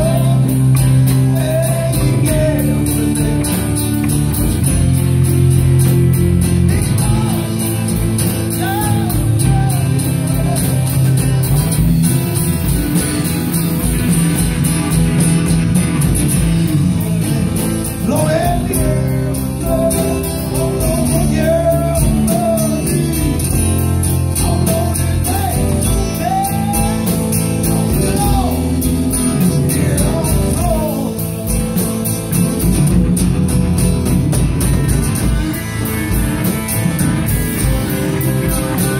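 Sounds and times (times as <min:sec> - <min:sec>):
live rock band playing: 0:00.0 - 0:38.9
wavering lead guitar line: 0:00.0 - 0:38.9.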